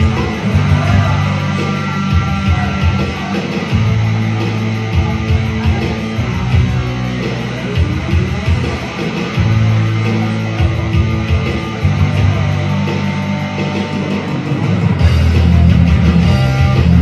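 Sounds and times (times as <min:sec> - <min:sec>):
bass line: 0:00.0 - 0:17.0
electric guitar: 0:00.0 - 0:17.0
live rock band playing: 0:00.0 - 0:17.0.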